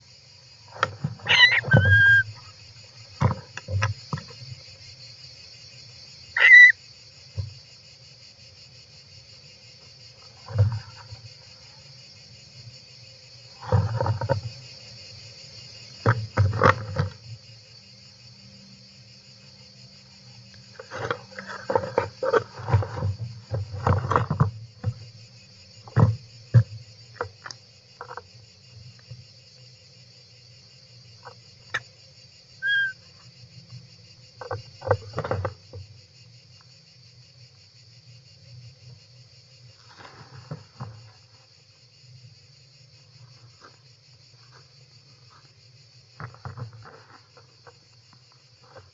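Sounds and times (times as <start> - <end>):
shrill insect chorus: 0.0 - 48.9.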